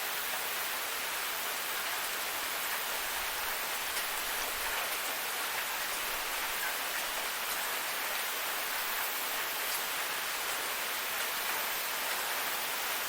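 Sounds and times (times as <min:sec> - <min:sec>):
faint water splashing ticks: 0:01.7 - 0:12.4.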